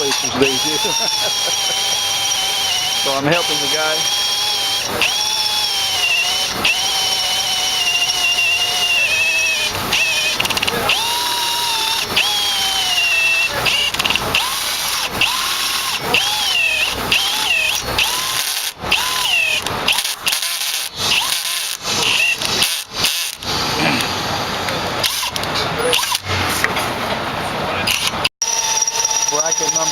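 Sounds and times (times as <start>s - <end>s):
electric drill boring through steel: 0.0s - 24.4s, 25.0s - 26.2s, 27.9s - 29.9s.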